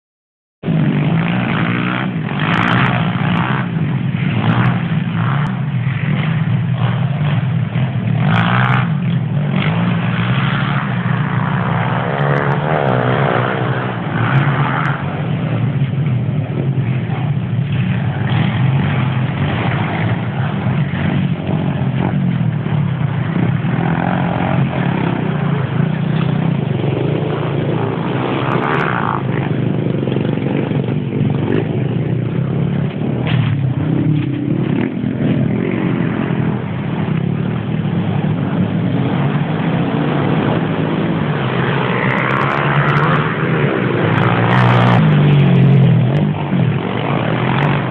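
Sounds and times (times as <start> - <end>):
motocross bike engines revving: 0.6 - 47.9.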